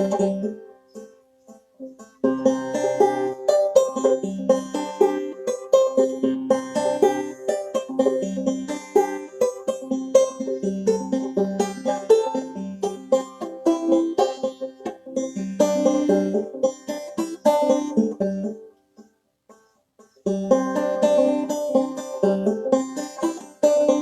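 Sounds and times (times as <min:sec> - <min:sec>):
banjo playing old-time tune: 0:00.0 - 0:24.0.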